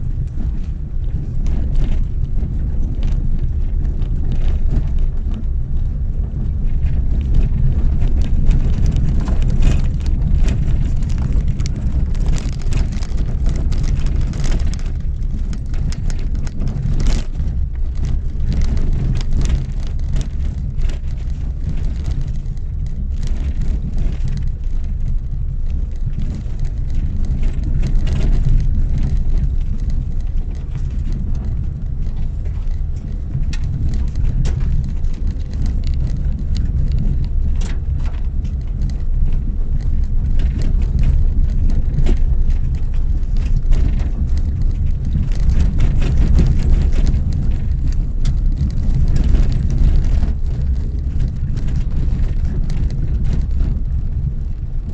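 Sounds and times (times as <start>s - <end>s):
car rumbling on rough track: 0.0s - 54.9s
gravel ticks and knocks from tyres: 0.0s - 54.9s.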